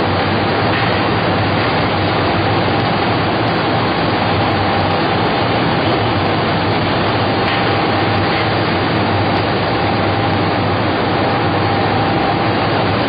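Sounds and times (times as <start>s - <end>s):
production machine running: 0.0s - 13.0s.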